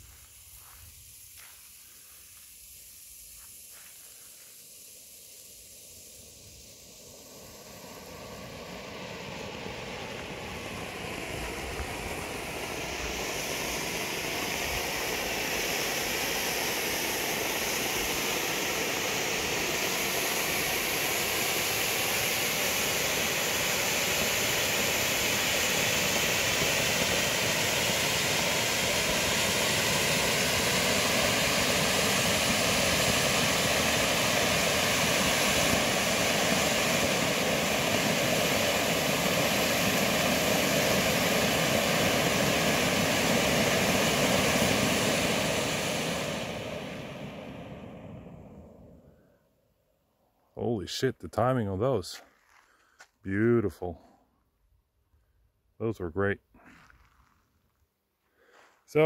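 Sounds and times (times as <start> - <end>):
firework fountains hissing: 0.0 - 49.1.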